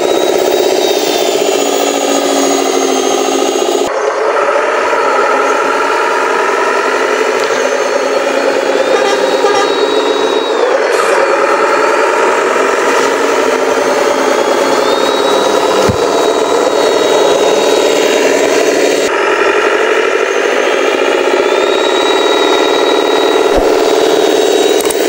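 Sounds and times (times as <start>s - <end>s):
toy truck motor whining: 0.0s - 25.0s.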